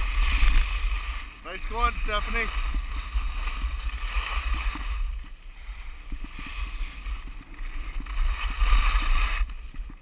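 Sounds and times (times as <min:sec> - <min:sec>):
skis scraping icy snow: 0:00.0 - 0:10.0.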